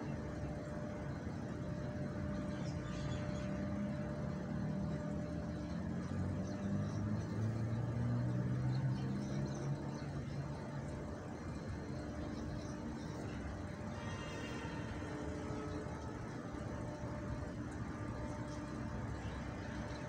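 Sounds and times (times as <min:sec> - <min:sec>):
hum of passing vehicles: 0:00.0 - 0:20.0.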